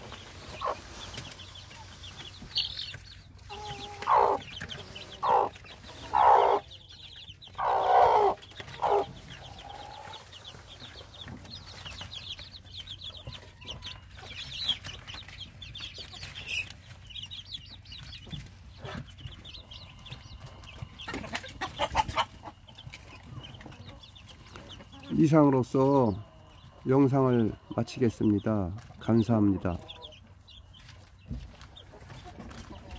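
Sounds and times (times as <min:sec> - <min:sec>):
chicks peeping: 0:00.0 - 0:32.9
hen clucking: 0:00.0 - 0:32.9.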